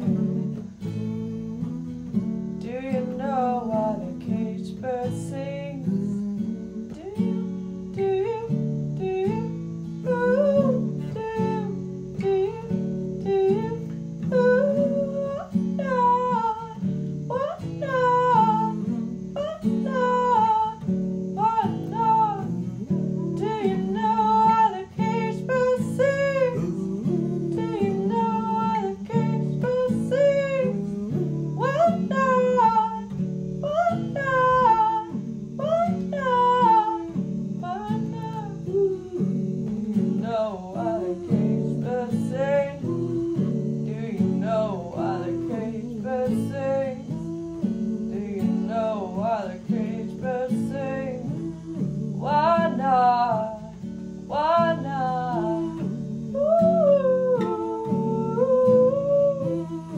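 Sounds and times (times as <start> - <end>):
person singing: 0.0 - 2.0, 2.6 - 59.9
acoustic guitar: 0.0 - 59.9.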